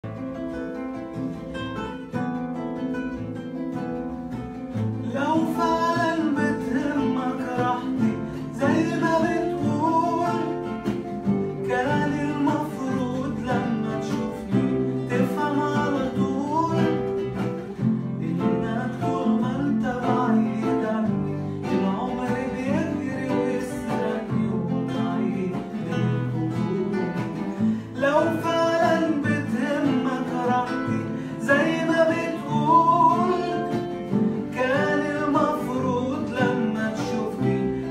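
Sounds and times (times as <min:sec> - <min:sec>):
acoustic guitars strumming: 0:00.0 - 0:37.9
man singing pop song: 0:04.7 - 0:37.9.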